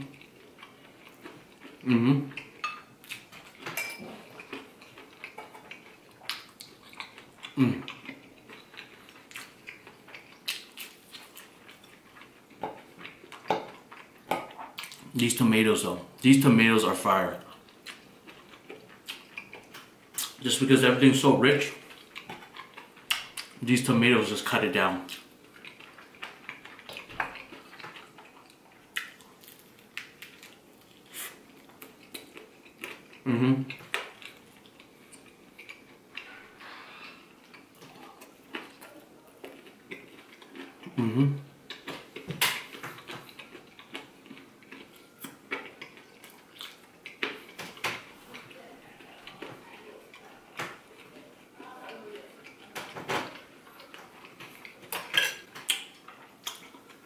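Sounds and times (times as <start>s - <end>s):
mouth chewing: 0.0s - 14.2s, 21.6s - 23.6s, 25.0s - 57.0s.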